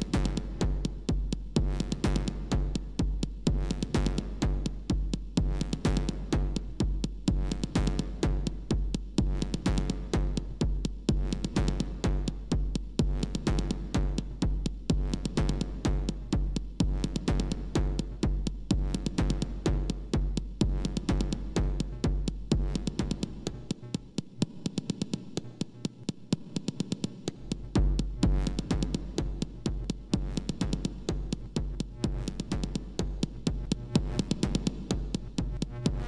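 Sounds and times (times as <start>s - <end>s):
reverberant clicking percussion: 0.0s - 36.0s
synthesized kick drum: 0.0s - 36.0s.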